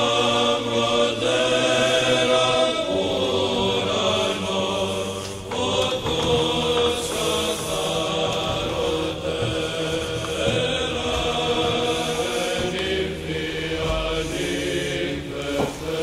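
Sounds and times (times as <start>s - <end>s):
voices chanting a slow hymn: 0.0s - 16.0s.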